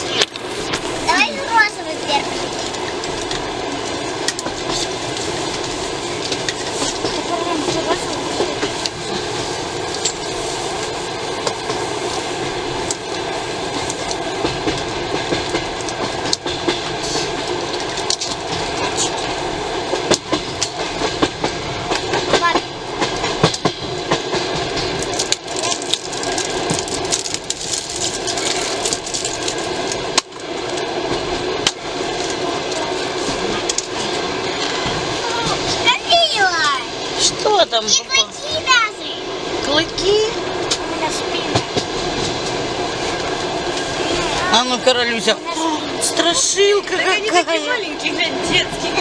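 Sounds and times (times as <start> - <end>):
train carriage running noise: 0.0 - 49.0.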